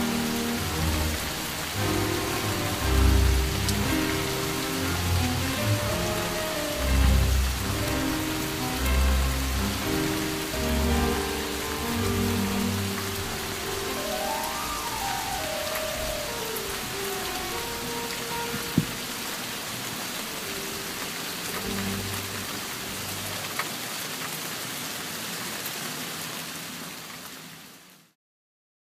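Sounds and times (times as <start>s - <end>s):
faint music notes: 0.0s - 23.7s
steady rain: 0.0s - 28.2s.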